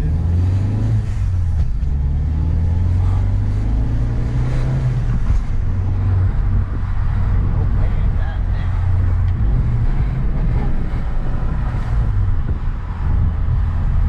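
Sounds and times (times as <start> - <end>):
car engine heard from cabin: 0.0 - 14.0.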